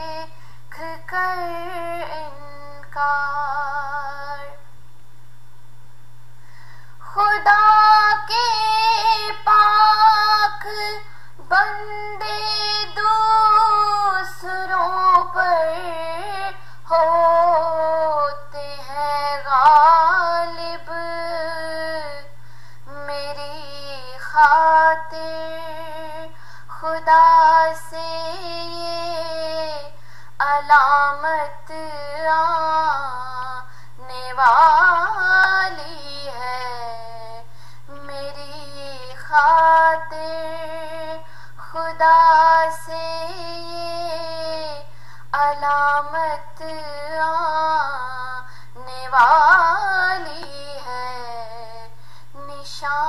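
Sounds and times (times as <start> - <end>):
woman singing unaccompanied: 0.0 - 4.7, 7.0 - 53.0
faint low hum: 0.0 - 53.0.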